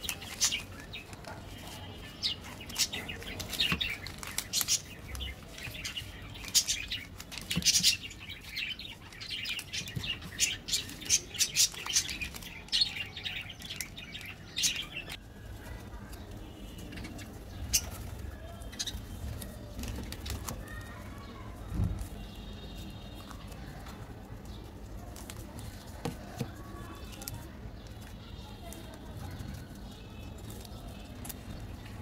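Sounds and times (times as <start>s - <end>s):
plastic wrappers crinkling: 0.0s - 32.0s
small birds chirping: 0.0s - 32.0s.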